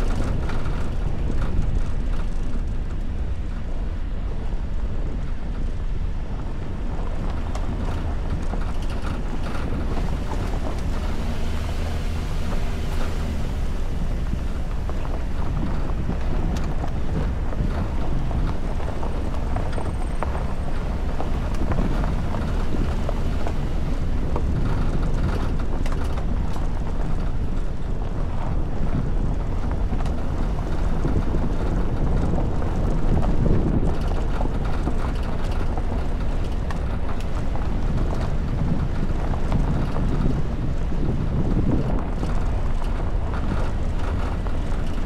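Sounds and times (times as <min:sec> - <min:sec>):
car rumbling on dirt track: 0:00.0 - 0:45.0
wind noise on microphone: 0:00.0 - 0:45.0.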